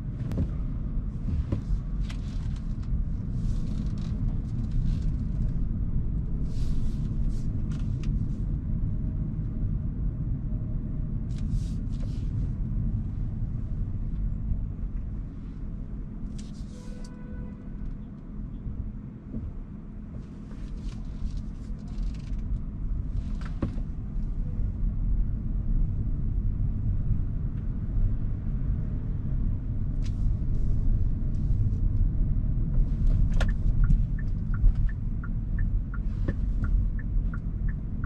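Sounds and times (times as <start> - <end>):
road and tyre rumble: 0.0 - 38.0.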